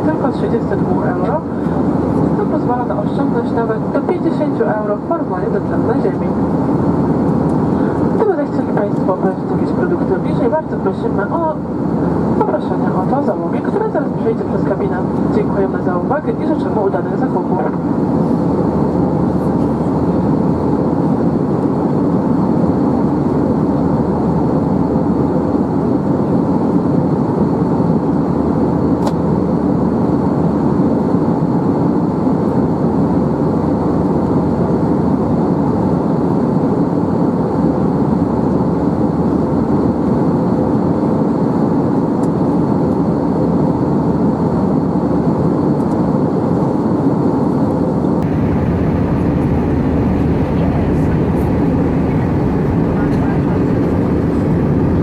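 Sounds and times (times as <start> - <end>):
jet engine and airflow rush: 0.0 - 55.0.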